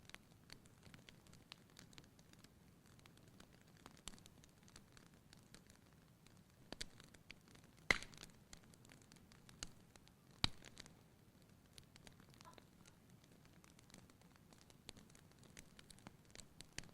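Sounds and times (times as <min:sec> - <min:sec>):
quiet fire hiss: 0:00.0 - 0:16.9
wood fire crackling and popping: 0:00.0 - 0:16.9.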